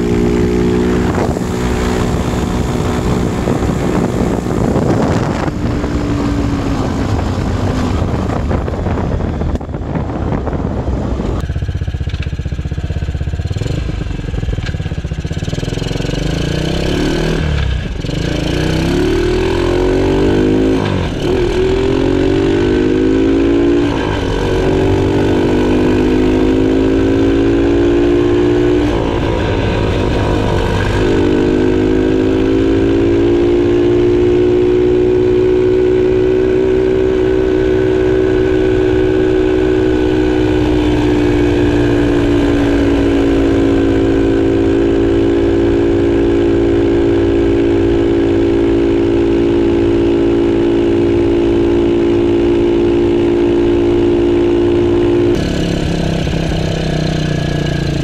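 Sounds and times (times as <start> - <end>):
engine running through muffler: 0.0 - 50.0, 54.9 - 58.0
road and wind noise: 0.0 - 58.0.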